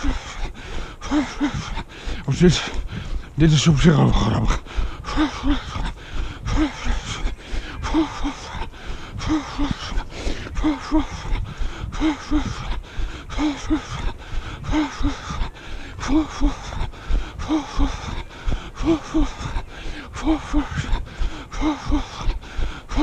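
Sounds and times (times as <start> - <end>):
runner breathing hard: 0.0 - 23.0.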